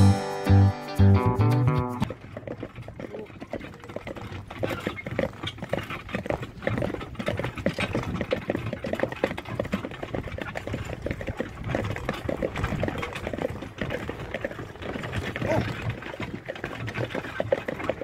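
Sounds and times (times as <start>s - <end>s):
horse hoofbeats on sand: 1.9s - 18.0s.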